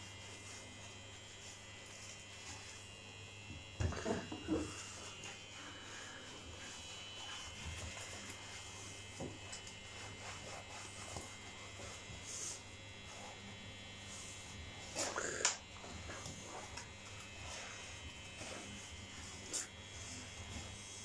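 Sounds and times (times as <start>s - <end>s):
faint electrical buzz: 0.0s - 21.0s.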